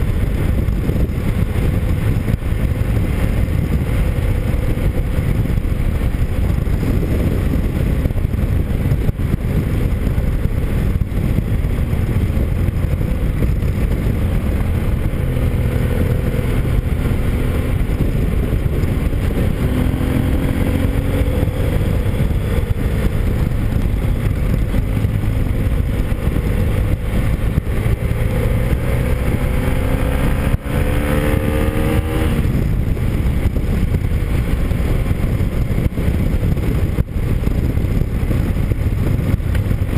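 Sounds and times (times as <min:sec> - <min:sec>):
motorcycle engine accelerating: 0:00.0 - 0:39.9
wind rush on microphone: 0:00.0 - 0:39.9.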